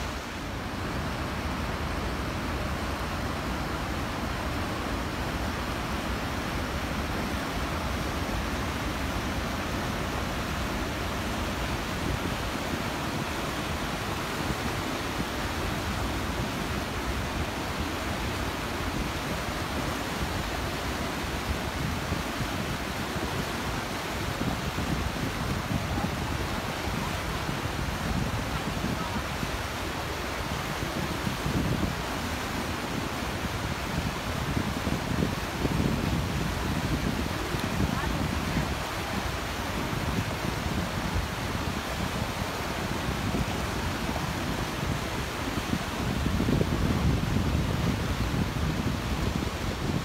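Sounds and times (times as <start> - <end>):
rushing water: 0.0 - 50.0
wind rumble on microphone: 0.0 - 50.0.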